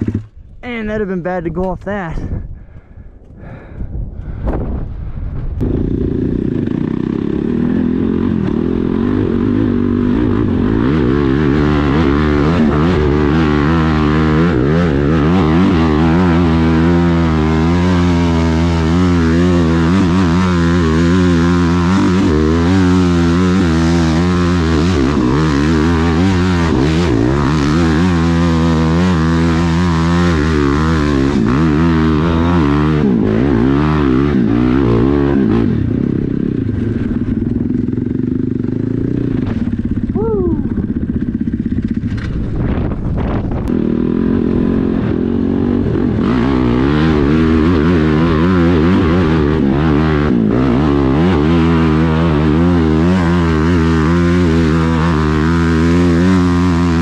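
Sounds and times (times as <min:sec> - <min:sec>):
dirt bike engine revving: 0:00.0 - 0:03.8, 0:05.6 - 0:57.0.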